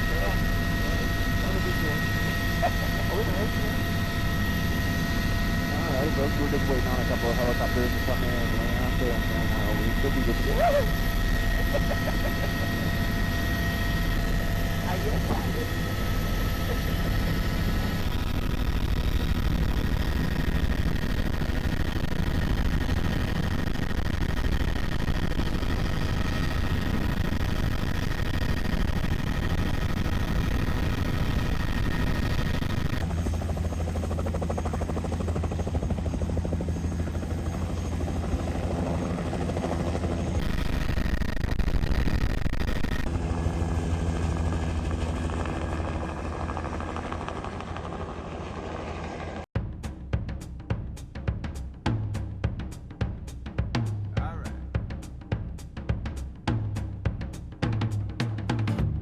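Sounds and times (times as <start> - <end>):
helicopter rotor rumble: 0.0 - 49.5
helicopter turbine whine: 0.0 - 49.5.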